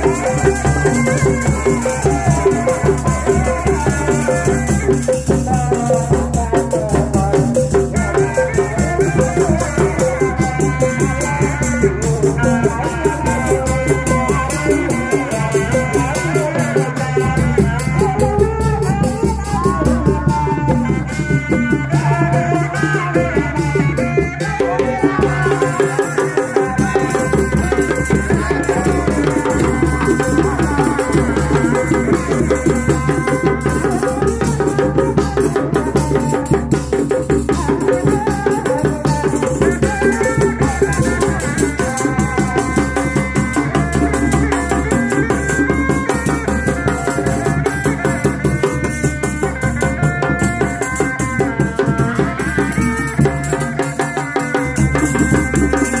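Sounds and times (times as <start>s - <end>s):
hand drums beating fast rhythm: 0.0s - 56.0s.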